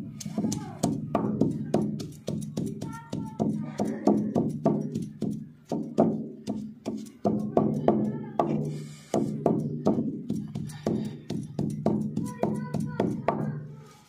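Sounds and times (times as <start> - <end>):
stone pestle pounding on stone: 0.0 - 13.5.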